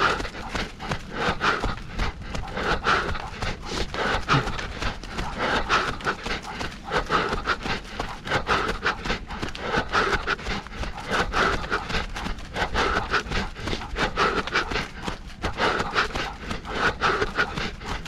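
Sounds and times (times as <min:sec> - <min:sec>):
runner breathing hard: 0:00.0 - 0:18.0
running footsteps on a trail: 0:00.0 - 0:18.0.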